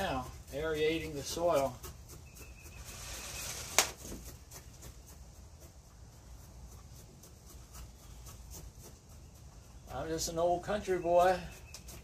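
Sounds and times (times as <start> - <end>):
hands scraping in loose soil: 0.0 - 12.0.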